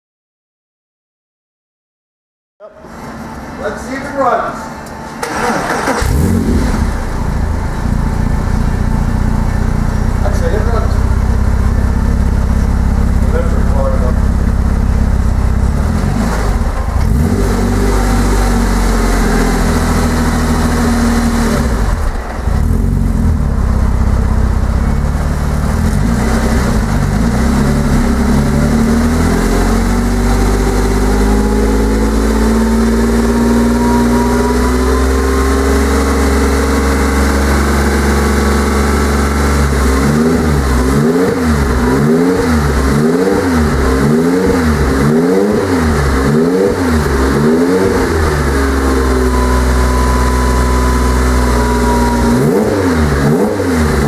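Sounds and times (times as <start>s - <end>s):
car engine revving: 2.9s - 54.0s.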